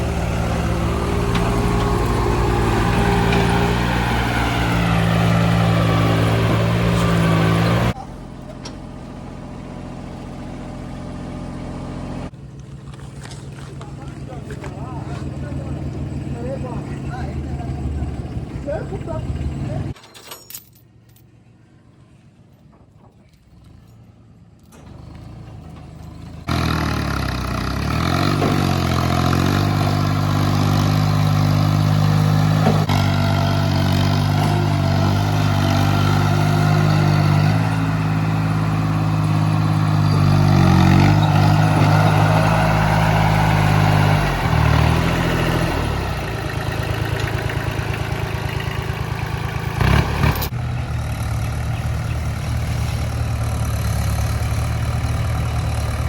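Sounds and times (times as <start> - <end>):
tractor engine revving: 0.0 - 20.0, 23.5 - 56.0.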